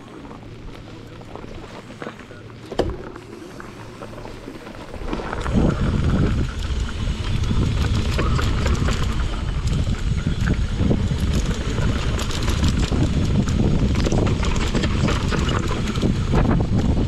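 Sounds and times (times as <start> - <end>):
bike tyres and frame rattling: 0.0 - 17.0
wind buffeting microphone: 2.9 - 17.0.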